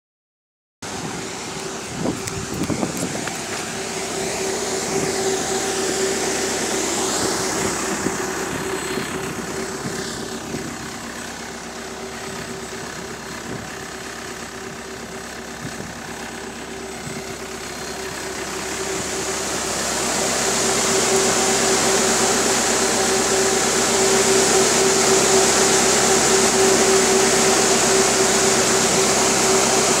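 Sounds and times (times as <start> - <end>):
cooling fan humming: 0.8 - 30.0.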